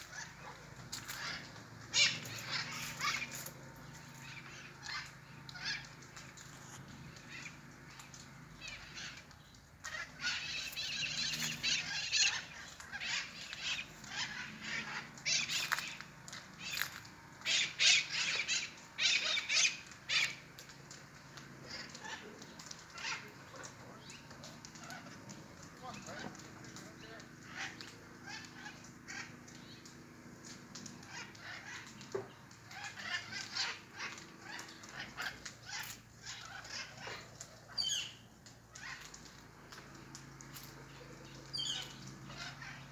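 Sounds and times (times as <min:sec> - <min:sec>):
parrots screeching: 0:00.0 - 0:20.5, 0:21.6 - 0:29.9, 0:30.5 - 0:42.9.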